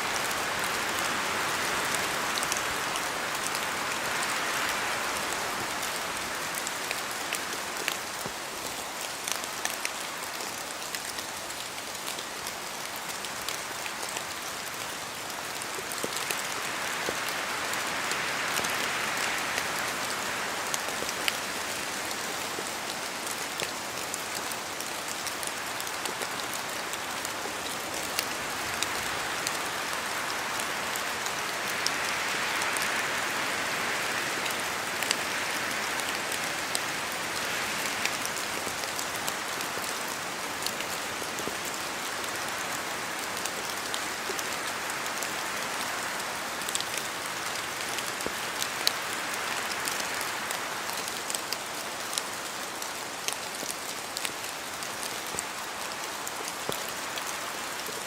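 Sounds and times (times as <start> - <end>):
steady rain hiss: 0.0 - 58.0
wind through branches: 0.0 - 58.0.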